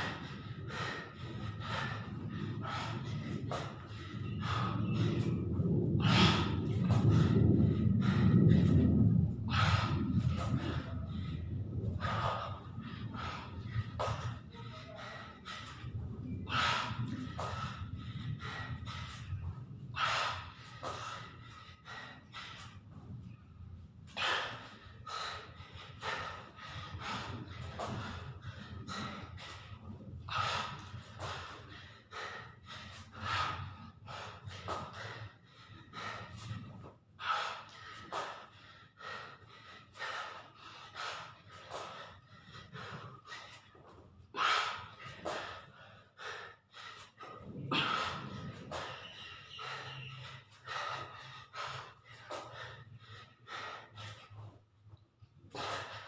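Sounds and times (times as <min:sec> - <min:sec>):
man breathing hard: 0:00.0 - 0:56.0.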